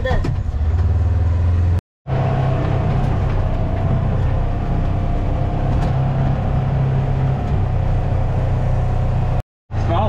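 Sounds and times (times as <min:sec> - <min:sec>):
vehicle engine droning: 0:00.3 - 0:10.0.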